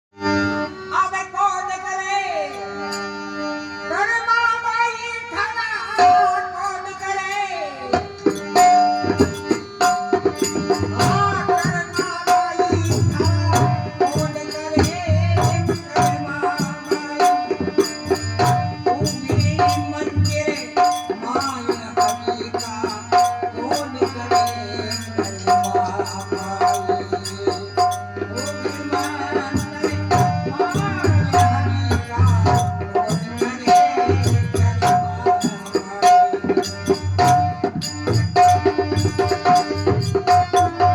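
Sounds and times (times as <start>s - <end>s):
hand drum rhythm: 8.0s - 40.9s.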